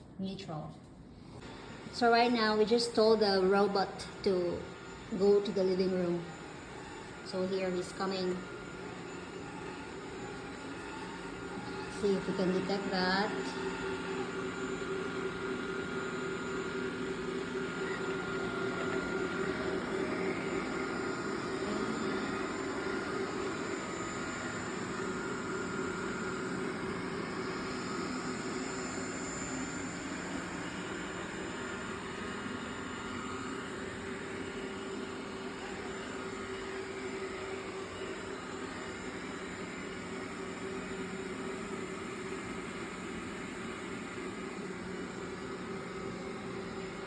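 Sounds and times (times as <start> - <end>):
robot vacuum whirring hum: 1.3 - 47.0.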